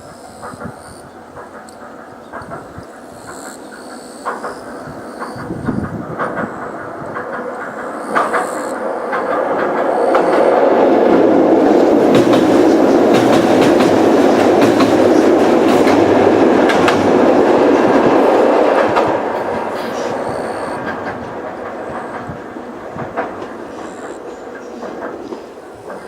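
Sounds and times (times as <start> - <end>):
electric train passing: 0.0 - 26.0
wheels clicking over rail joints: 0.0 - 26.0.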